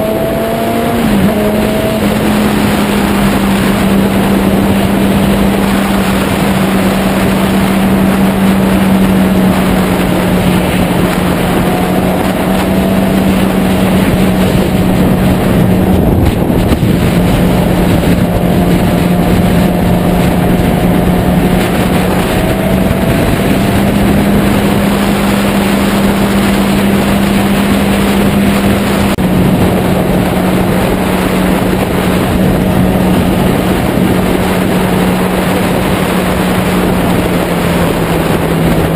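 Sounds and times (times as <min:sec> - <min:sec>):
motorcycle engine hum: 0:00.0 - 0:38.9
wind buffeting microphone: 0:00.0 - 0:38.9.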